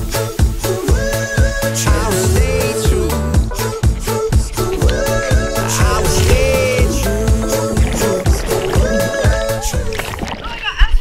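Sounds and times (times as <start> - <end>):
upbeat pop music: 0.0 - 10.5.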